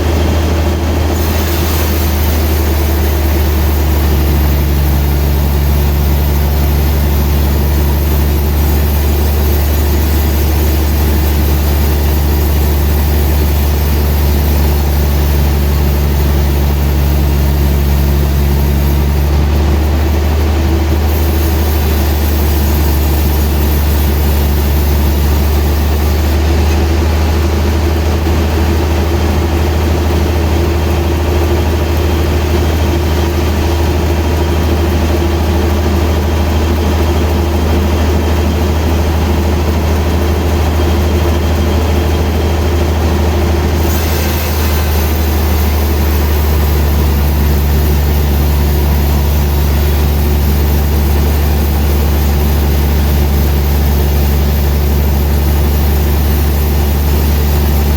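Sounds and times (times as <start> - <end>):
sawmill machinery humming: 0.0 - 57.9.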